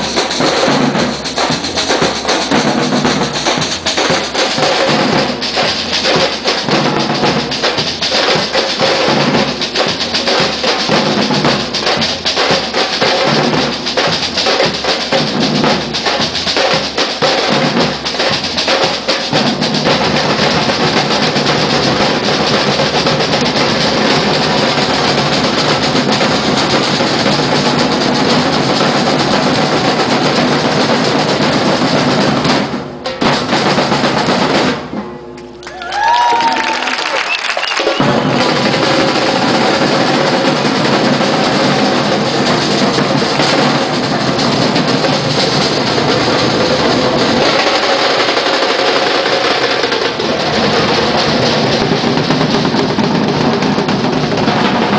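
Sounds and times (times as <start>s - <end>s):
bass drums beating: 0.0s - 36.9s, 37.6s - 54.9s
drum group playing: 0.0s - 54.9s.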